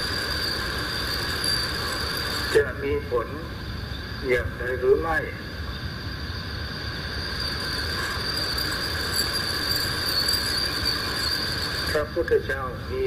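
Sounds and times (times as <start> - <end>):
background hiss: 0.0 - 13.0
shrill insect chorus: 0.0 - 13.0.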